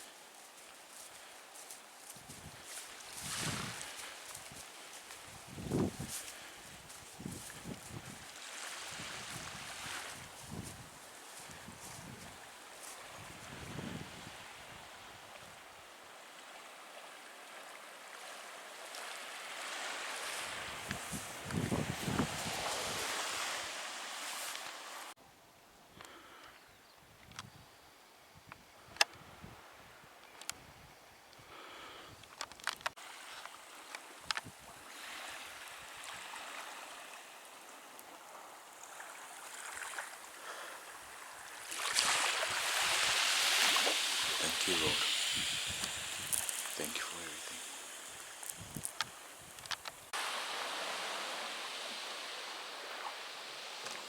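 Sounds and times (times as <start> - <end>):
surf washing on beach: 0.0 - 25.2, 32.9 - 54.0.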